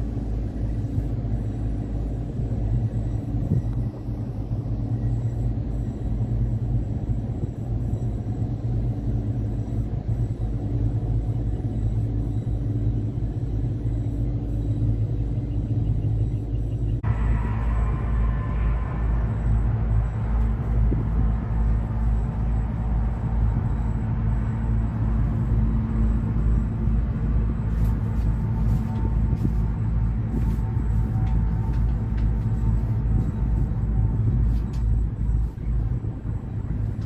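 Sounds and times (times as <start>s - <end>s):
low hum: 0.0s - 37.0s
low rumble: 0.0s - 37.0s.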